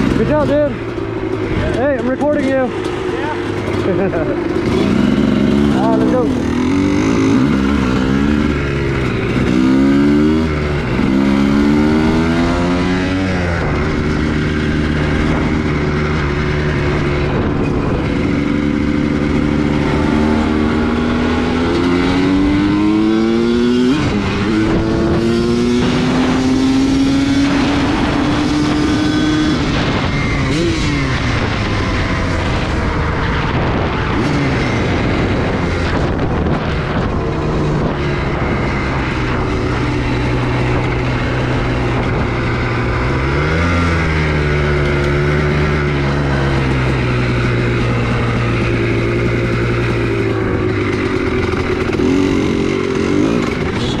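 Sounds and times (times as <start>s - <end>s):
motorcycle engine revving: 0.0s - 54.0s
wind noise: 3.5s - 54.0s.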